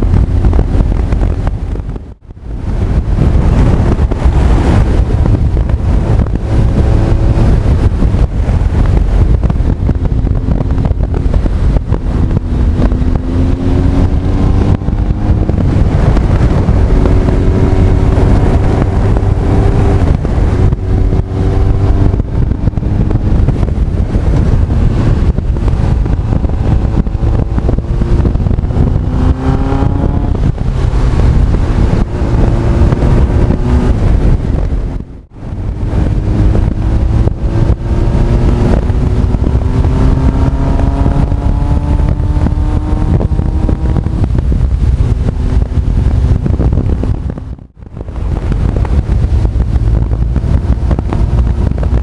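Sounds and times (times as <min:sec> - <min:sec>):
motorcycle engine accelerating: 0:00.0 - 0:52.0
wind buffeting microphone: 0:00.0 - 0:52.0.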